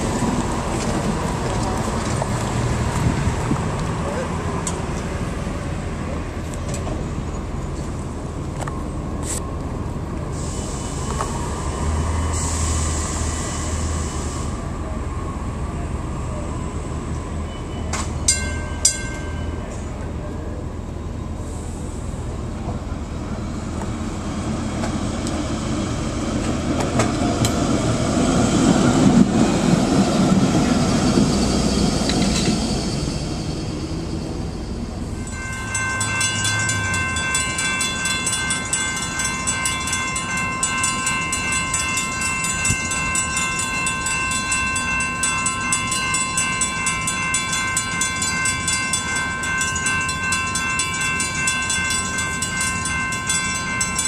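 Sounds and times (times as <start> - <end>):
streetcar wheels rumbling on rail: 0.0 - 54.0.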